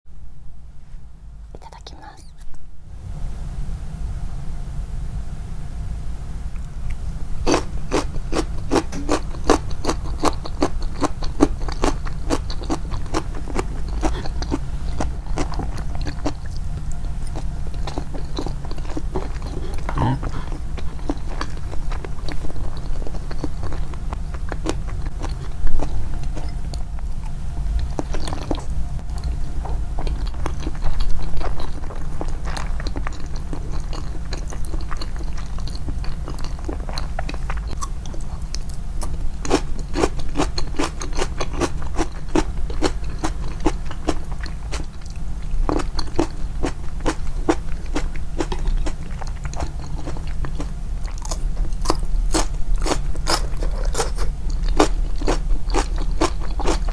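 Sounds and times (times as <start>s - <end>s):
steady low hum: 0.1s - 56.9s
chewing and crunching bites: 7.4s - 56.9s.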